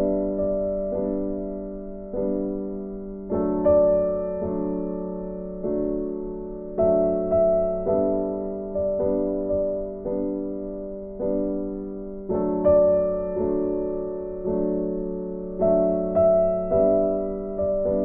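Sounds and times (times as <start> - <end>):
slow gentle piano chords: 0.0 - 18.0.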